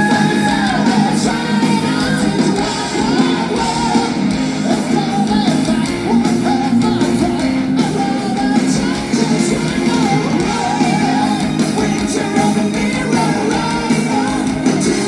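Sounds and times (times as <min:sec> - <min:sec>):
distorted guitars: 0:00.0 - 0:15.0
drums: 0:00.0 - 0:15.0
metal band playing: 0:00.0 - 0:15.0
wavering melodic lead line: 0:00.0 - 0:15.0.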